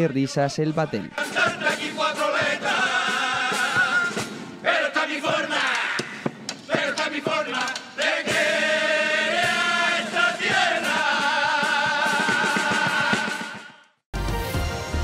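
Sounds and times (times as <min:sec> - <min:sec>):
male chorus singing in unison: 0:00.3 - 0:13.9.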